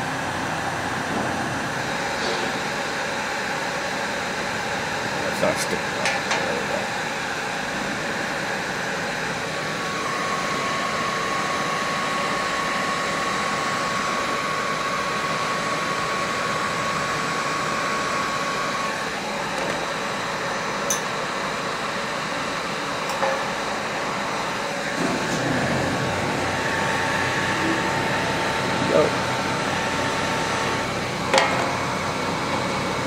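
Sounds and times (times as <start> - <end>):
fan whirring: 0.0 - 33.0.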